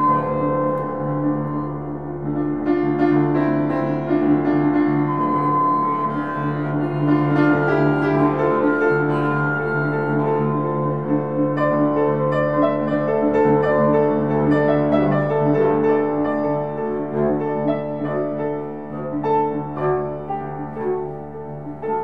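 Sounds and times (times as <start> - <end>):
bowed double bass: 0.0 - 22.0
piano notes and chords: 0.0 - 22.0.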